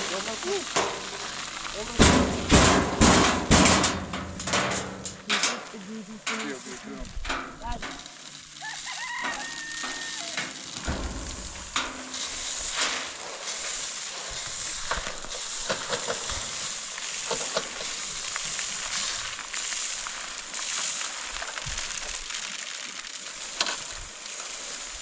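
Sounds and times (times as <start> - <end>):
grain pouring onto plastic tarp: 0.0 - 3.5, 5.7 - 25.0.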